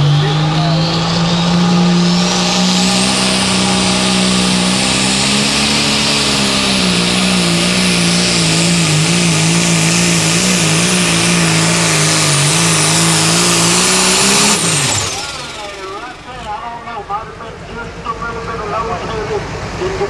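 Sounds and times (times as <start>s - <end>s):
diesel tractor engine under load: 0.0s - 20.0s
high turbocharger whine: 0.0s - 20.0s.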